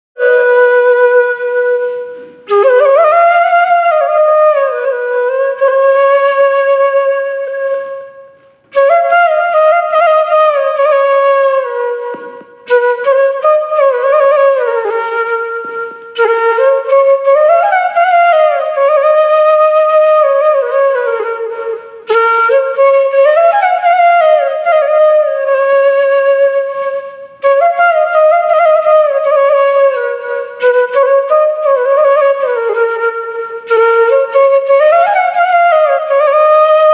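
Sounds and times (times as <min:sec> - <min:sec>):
flute playing slow melody: 0:00.2 - 0:36.9.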